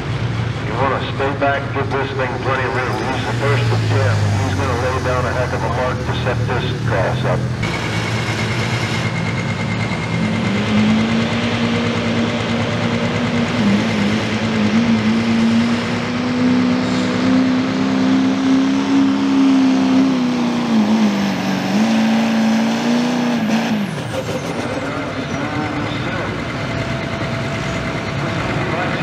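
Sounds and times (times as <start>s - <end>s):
diesel truck engine at full throttle: 0.0s - 29.0s.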